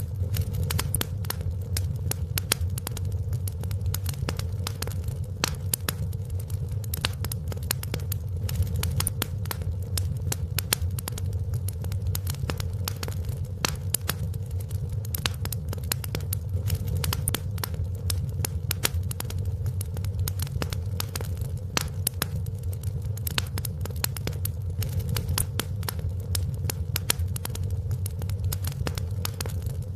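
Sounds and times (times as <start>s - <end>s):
fire crackling and popping: 0.0s - 29.9s
wood fire flames rumbling: 0.0s - 29.9s.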